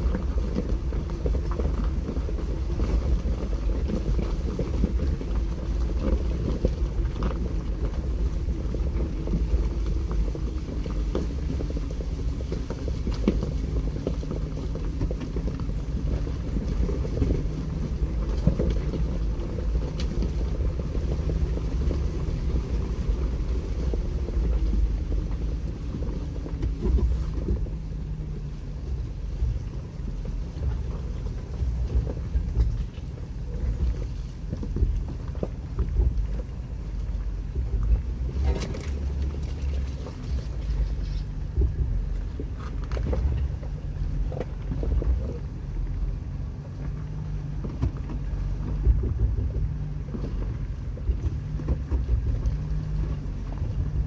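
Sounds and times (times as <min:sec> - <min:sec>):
car engine running at low speed: 0:00.0 - 0:54.0.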